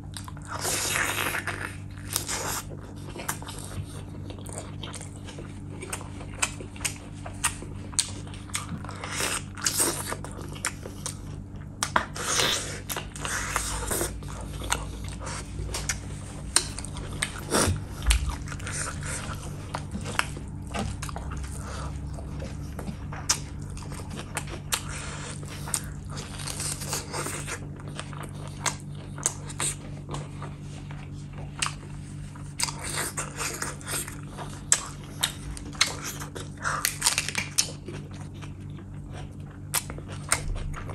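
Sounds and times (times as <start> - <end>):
chewing and mouth sounds: 0.0 - 40.9
faint low hum: 0.0 - 40.9.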